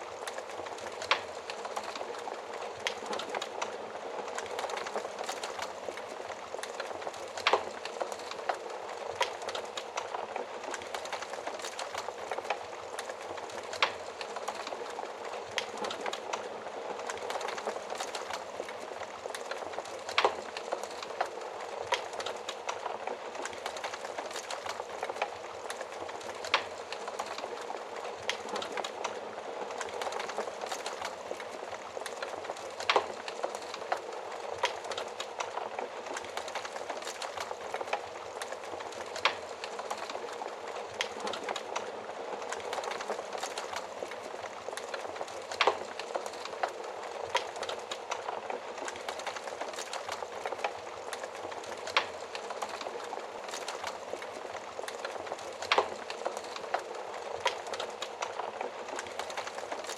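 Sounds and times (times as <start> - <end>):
burning wood crackling and popping: 0.0 - 59.9
wood fire hissing in stove: 0.0 - 59.9.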